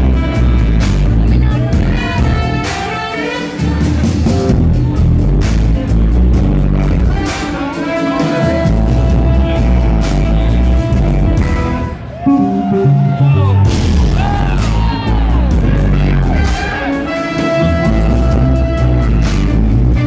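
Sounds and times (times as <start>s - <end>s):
electric bass: 0.0s - 2.8s, 3.6s - 20.0s
drums: 0.0s - 20.0s
electric guitars: 0.0s - 20.0s.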